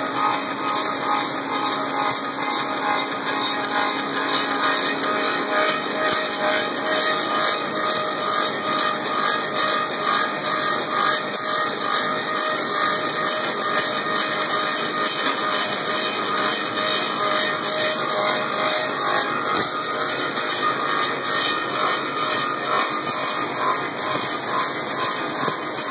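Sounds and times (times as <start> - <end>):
cutter shaving wood: 0.0 - 25.9
lathe running: 0.0 - 25.9.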